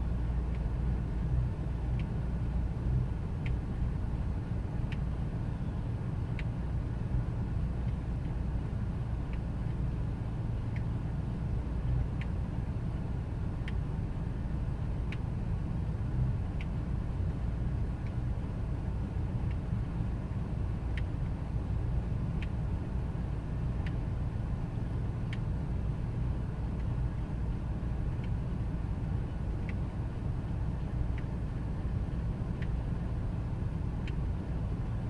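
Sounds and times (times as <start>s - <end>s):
faint engine tick: 0.0s - 35.0s.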